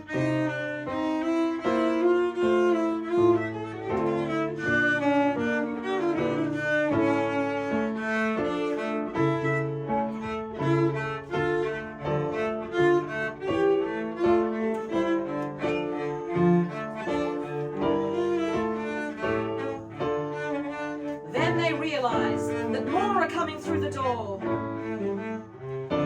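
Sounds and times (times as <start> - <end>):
bowed string ensemble playing: 0.0 - 26.0.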